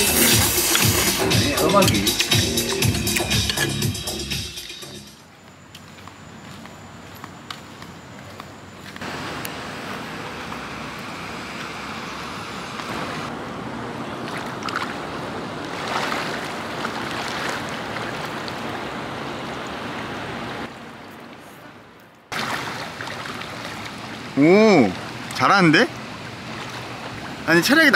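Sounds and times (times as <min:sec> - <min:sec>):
pool water splashing: 0:00.0 - 0:03.7, 0:05.2 - 0:27.9.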